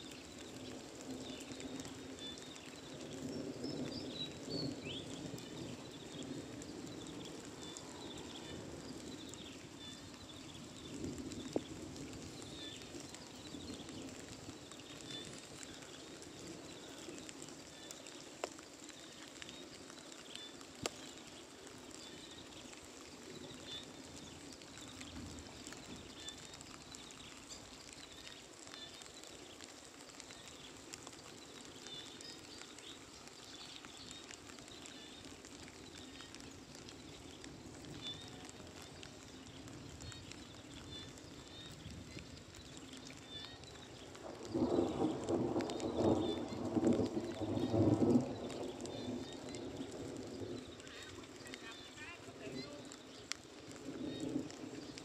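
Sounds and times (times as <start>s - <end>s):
light rain hiss: 0.0s - 55.0s.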